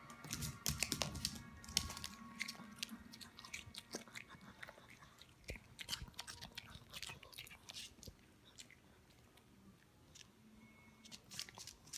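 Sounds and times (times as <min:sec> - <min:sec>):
dog chewing and crunching food: 0:00.1 - 0:10.4, 0:11.0 - 0:11.9.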